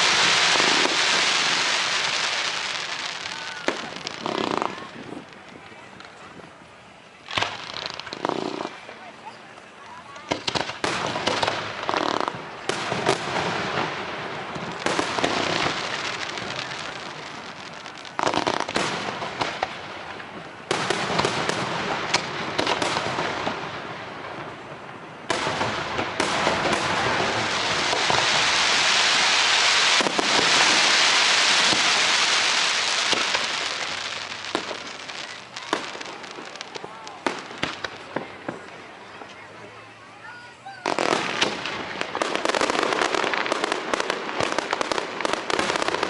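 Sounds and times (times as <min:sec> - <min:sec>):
fireworks bangs: 0:00.0 - 0:39.6, 0:40.3 - 0:46.0
fireworks crackling hiss: 0:00.0 - 0:46.0.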